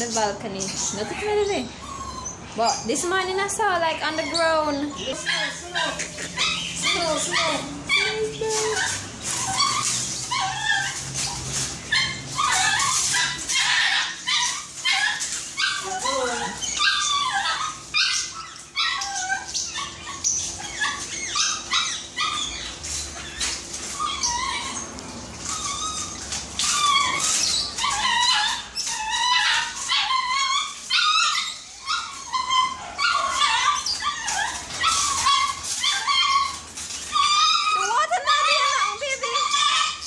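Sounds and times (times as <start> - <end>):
puppy whining and yelping: 0.0 - 40.0.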